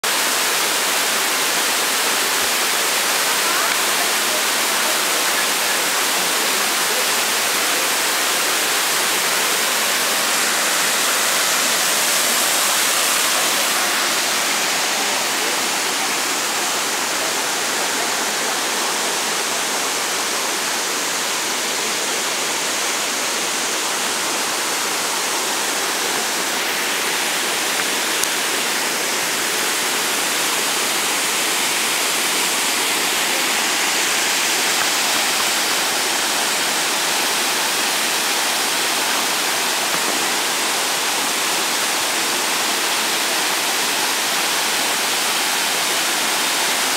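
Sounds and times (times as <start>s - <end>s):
waterfall rushing over rocks: 0.0s - 46.9s.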